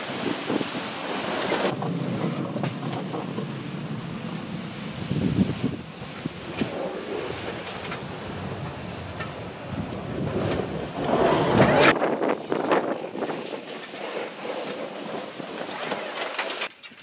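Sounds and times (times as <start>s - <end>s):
wind buffeting microphone: 0.0s - 16.4s
plow blade pushing snow: 0.0s - 17.0s.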